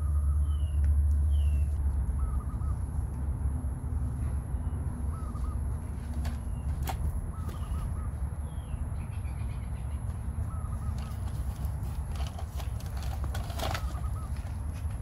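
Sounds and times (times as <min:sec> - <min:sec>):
bird calling: 0:00.0 - 0:03.0, 0:04.5 - 0:11.8, 0:13.0 - 0:15.0
steady low rumble: 0:00.0 - 0:15.0.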